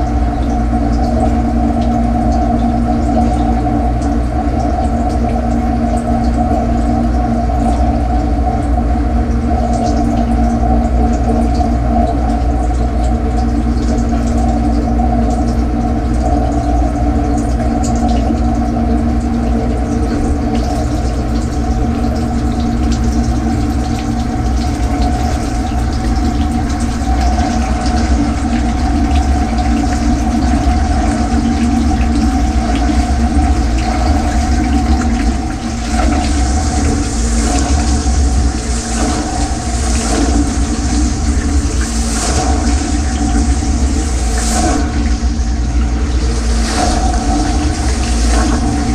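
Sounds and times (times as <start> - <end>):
dishwasher pump humming: 0.0 - 48.9
water spraying and sloshing: 0.0 - 48.9.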